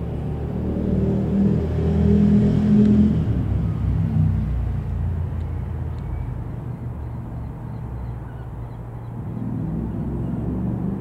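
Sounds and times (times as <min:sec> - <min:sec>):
single piston aircraft engine droning: 0:00.0 - 0:11.0.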